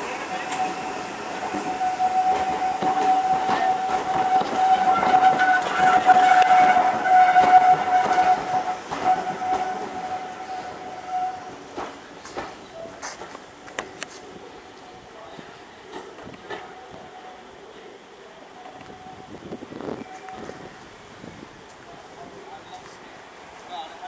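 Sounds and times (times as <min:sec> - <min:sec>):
train coaches rolling past: 0:00.0 - 0:24.0.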